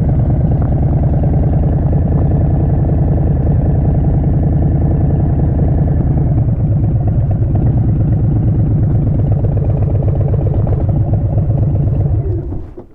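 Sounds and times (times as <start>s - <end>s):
motorcycle exhaust pulsing: 0.0s - 12.9s.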